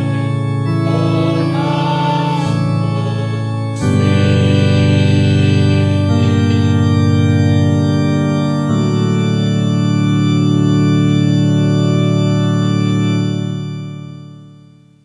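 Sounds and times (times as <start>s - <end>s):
organ playing held chords: 0.0s - 15.0s.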